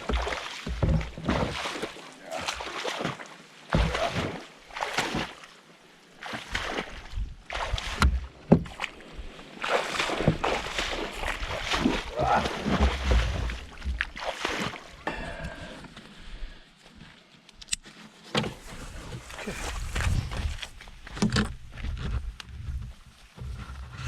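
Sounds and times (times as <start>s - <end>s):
sloshing and squelching in bog: 0.0s - 24.0s.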